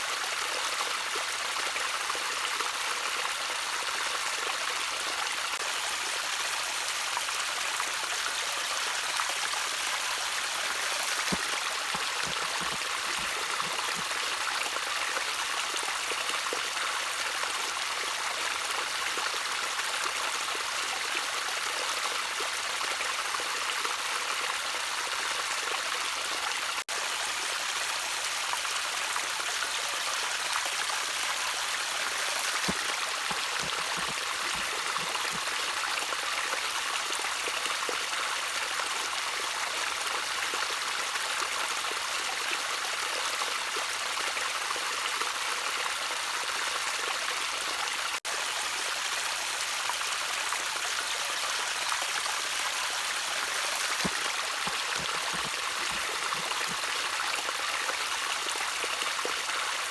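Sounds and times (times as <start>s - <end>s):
stream trickling over stones: 0.0s - 59.9s.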